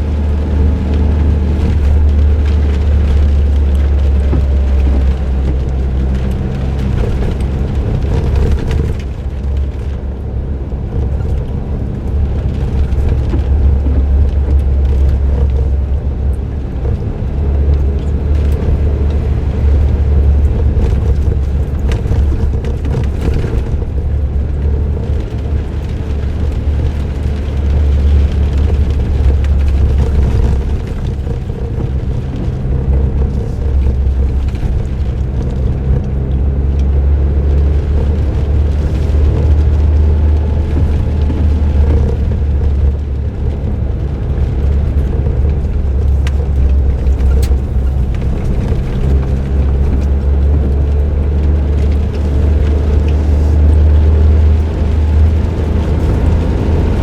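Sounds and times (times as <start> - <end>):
car engine running: 0.0 - 57.0
tyre and road noise: 0.0 - 57.0.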